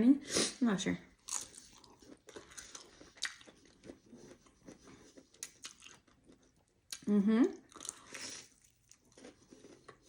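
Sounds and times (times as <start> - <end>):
crunchy chewing: 1.2 - 7.0, 7.7 - 10.0.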